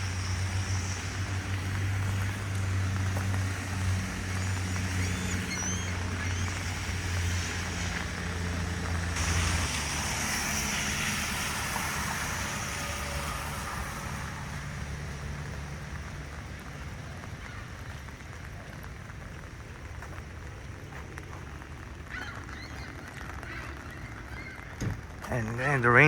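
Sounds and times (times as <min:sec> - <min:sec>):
hiss of wet street: 0:00.0 - 0:26.0
road traffic hum: 0:00.0 - 0:26.0.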